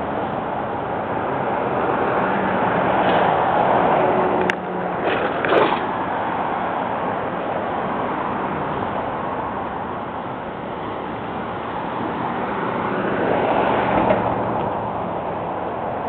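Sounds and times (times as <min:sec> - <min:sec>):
passing traffic: 0:00.0 - 0:16.0.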